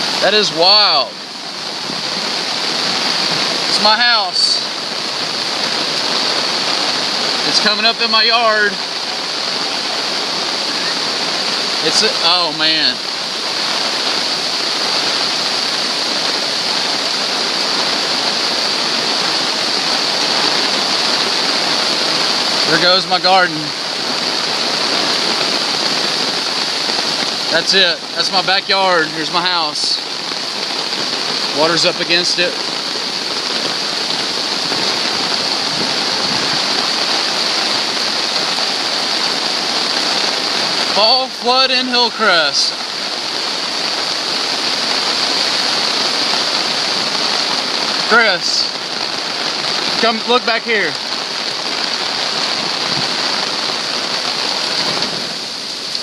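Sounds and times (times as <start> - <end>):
floodwater rushing: 0.0 - 56.0.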